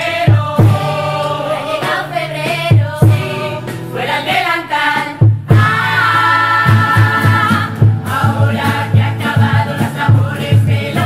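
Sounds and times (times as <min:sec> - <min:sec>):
singing voices over a beat: 0:00.0 - 0:11.0.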